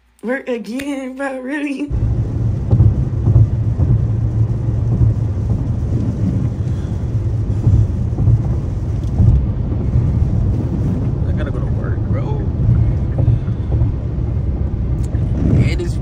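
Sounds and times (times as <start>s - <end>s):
car interior engine rumble: 1.6s - 16.0s.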